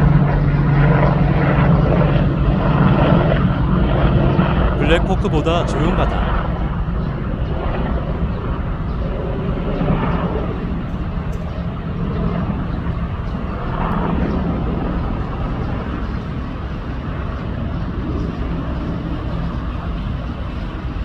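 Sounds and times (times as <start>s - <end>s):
helicopter rotors and engines droning: 0.0s - 21.0s.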